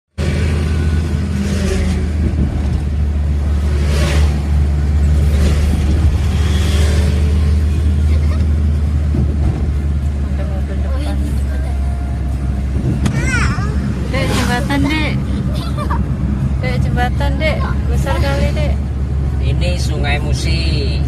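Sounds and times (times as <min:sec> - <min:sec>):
car engine drone: 0:00.1 - 0:21.0
tyre and road noise: 0:00.1 - 0:21.0.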